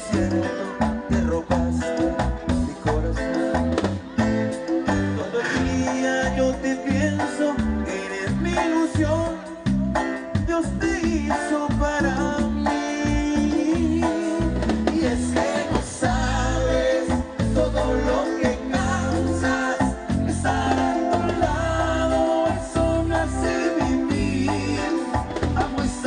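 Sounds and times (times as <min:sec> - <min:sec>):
live band playing cumbia: 0:00.0 - 0:26.0
person singing: 0:00.0 - 0:26.0
pulsing bass line: 0:00.0 - 0:26.0.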